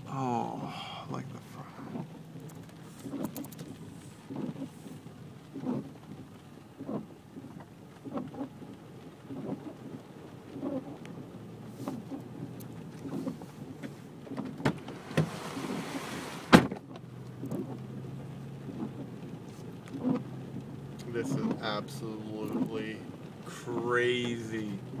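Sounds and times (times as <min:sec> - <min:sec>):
heavy rain on a vehicle: 0:00.0 - 0:25.0
vehicle driving through flood water: 0:00.0 - 0:25.0
rush of spray: 0:00.6 - 0:16.7, 0:21.0 - 0:25.0.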